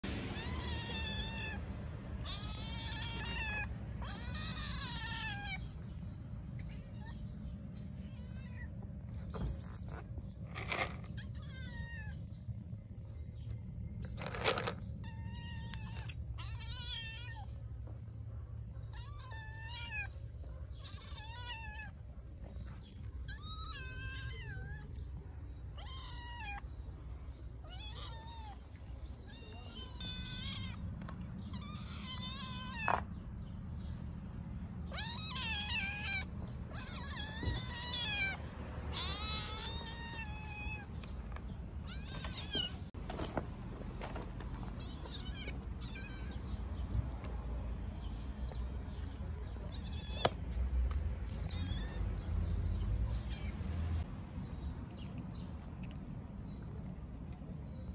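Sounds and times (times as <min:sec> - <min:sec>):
cats meowing: 0:00.0 - 0:43.3, 0:44.2 - 0:50.6, 0:51.2 - 0:55.2.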